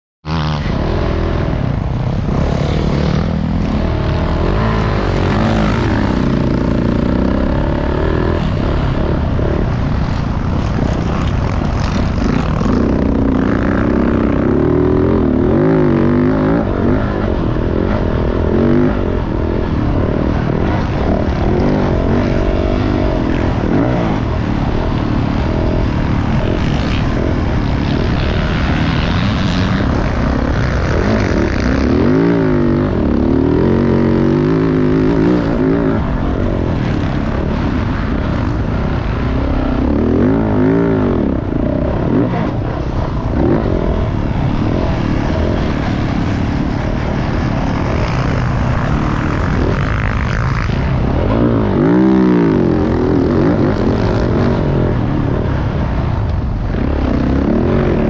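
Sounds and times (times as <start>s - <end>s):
dirt bike engine revving: 0.3s - 58.0s.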